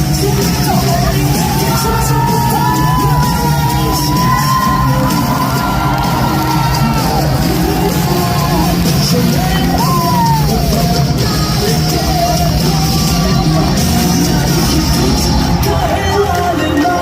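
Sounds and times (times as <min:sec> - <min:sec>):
crowd yelling and whooping: 0:00.0 - 0:17.0
loud music with low beat: 0:00.0 - 0:17.0.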